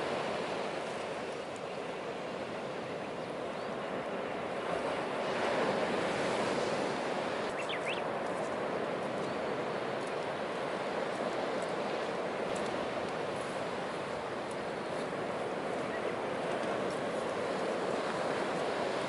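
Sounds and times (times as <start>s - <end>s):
sea waves washing on shore: 0.0s - 19.0s.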